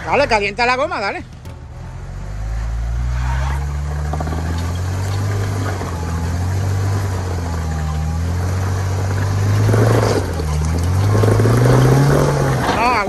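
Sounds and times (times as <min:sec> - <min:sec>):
engine pulling under load: 0:00.0 - 0:13.0.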